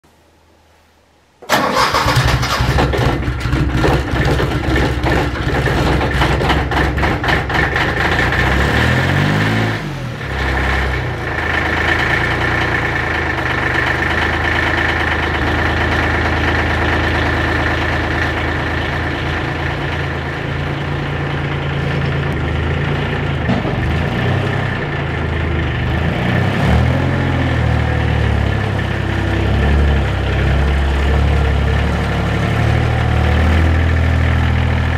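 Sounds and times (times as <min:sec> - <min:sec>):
tractor engine starting and idling: 0:01.4 - 0:34.9.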